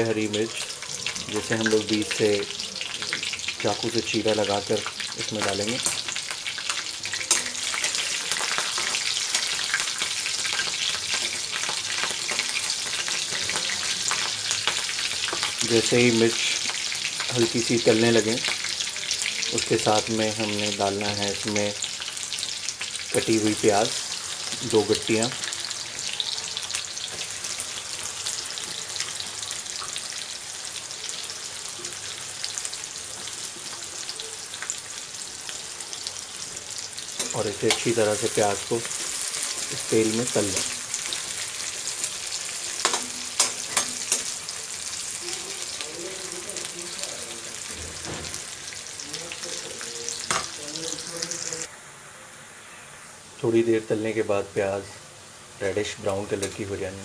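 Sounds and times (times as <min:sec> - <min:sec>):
spices sizzling in hot oil: 0:00.0 - 0:57.0.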